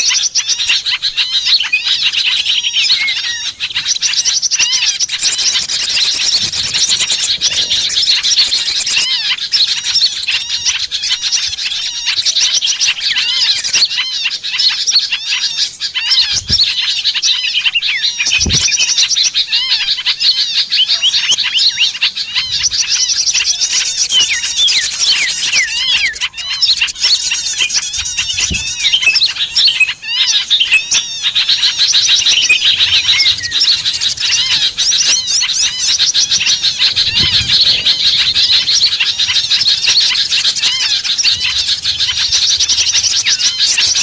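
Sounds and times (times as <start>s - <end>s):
songbirds chirping and twittering: 0.0s - 44.0s.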